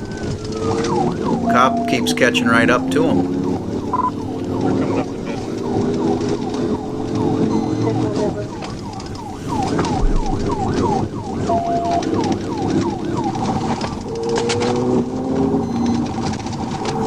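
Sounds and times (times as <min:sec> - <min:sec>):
car engine running hard: 0:00.0 - 0:17.0
police siren yelping: 0:00.0 - 0:17.0.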